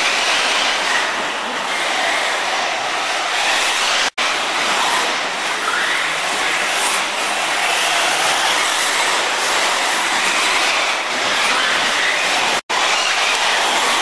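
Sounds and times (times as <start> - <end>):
rc car drivetrain rattling: 0.0 - 14.0.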